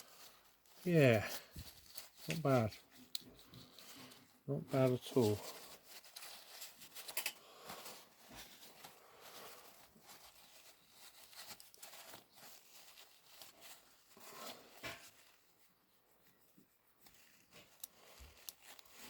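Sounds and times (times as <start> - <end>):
cloth rubbing plastic: 0.0 - 19.0.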